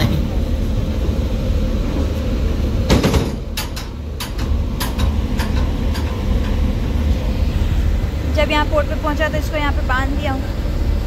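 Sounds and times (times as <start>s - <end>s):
ship engine rumble: 0.0s - 11.0s.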